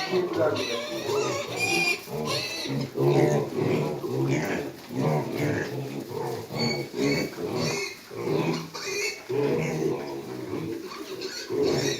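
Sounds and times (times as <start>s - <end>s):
pigs grunting: 0.0s - 11.9s.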